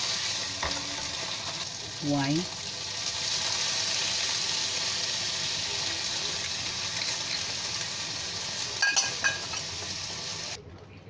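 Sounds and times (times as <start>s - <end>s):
ribs sizzling in hot oil: 0.0s - 10.6s.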